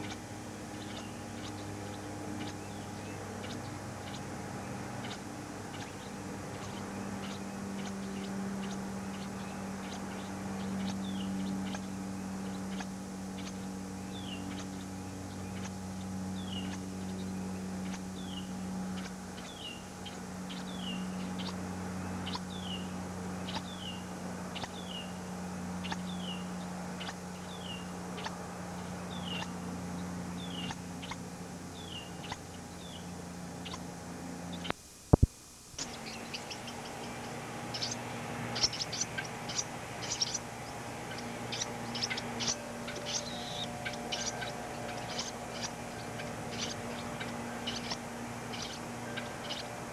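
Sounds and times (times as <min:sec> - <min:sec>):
small bird chirping: 0:00.0 - 0:25.2, 0:25.8 - 0:35.2, 0:35.8 - 0:49.9
steady low hum: 0:00.0 - 0:49.9.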